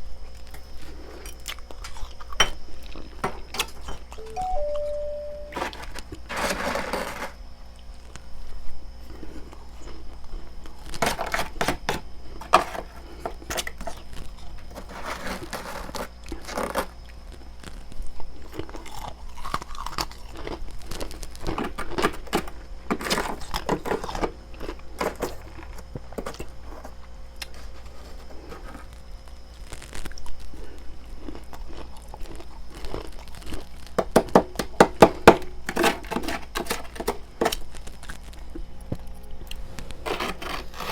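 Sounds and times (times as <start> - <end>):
crunching and chewing frost: 0.0 - 4.2, 7.8 - 40.9.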